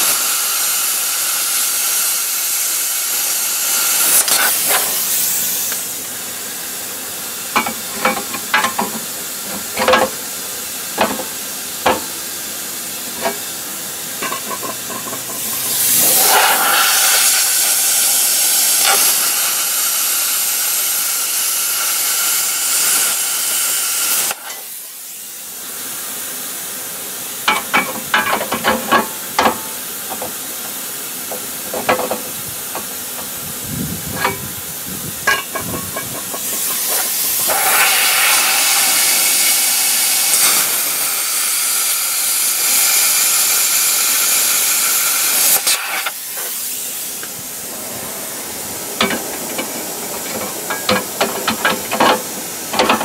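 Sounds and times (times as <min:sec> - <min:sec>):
welding hiss and crackle: 0:00.0 - 0:53.0.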